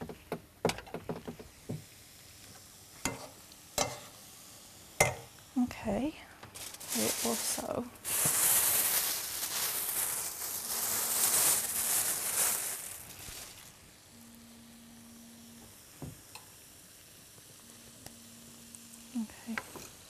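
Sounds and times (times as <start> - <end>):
food sizzling in a frying pan: 1.0 - 20.0.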